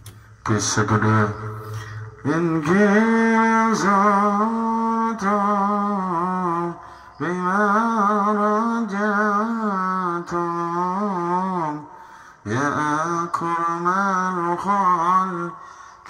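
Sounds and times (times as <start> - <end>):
man singing over loudspeaker: 0.4 - 15.6.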